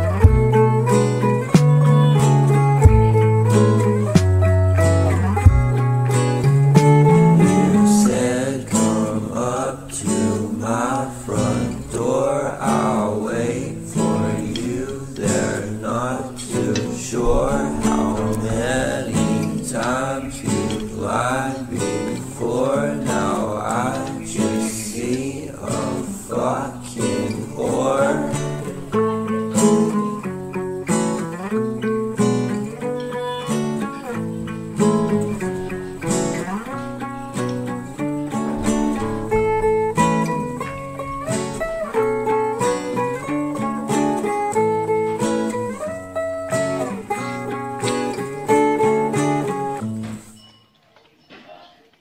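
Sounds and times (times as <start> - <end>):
acoustic guitar plucked and strummed: 0.0 - 50.4.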